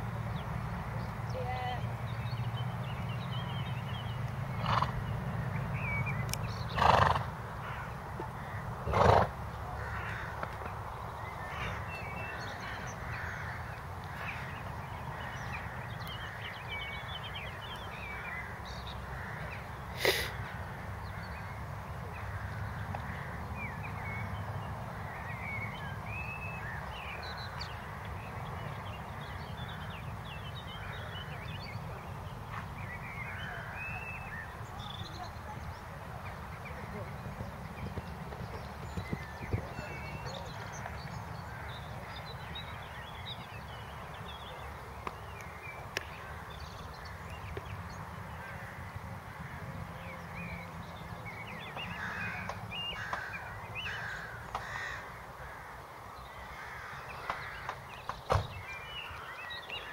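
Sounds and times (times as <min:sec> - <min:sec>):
small birds chirping: 0:00.2 - 0:59.9.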